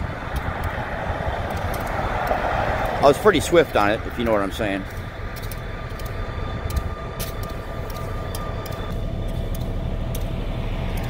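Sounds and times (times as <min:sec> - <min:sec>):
faint whine: 0:00.0 - 0:11.0
locomotive engine rumbling: 0:00.0 - 0:11.0.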